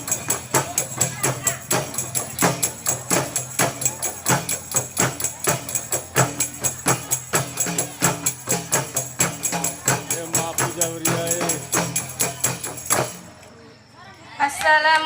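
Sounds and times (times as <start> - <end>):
frame drums beating: 0.0 - 13.4.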